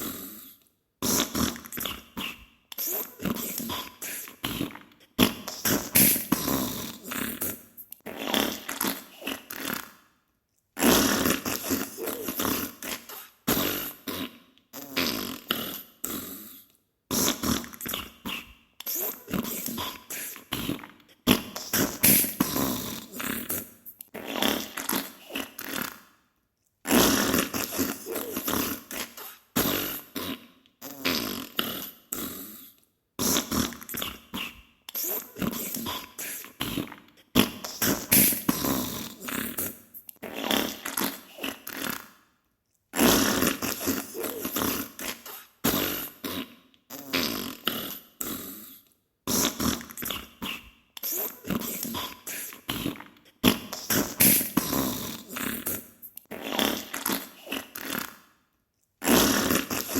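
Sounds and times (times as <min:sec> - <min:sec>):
sputtering farting bursts: 0:01.0 - 0:09.9, 0:10.8 - 0:14.1, 0:17.1 - 0:26.0, 0:26.9 - 0:31.5, 0:33.2 - 0:42.1, 0:43.0 - 0:47.8, 0:49.3 - 0:58.2, 0:59.0 - 0:59.9.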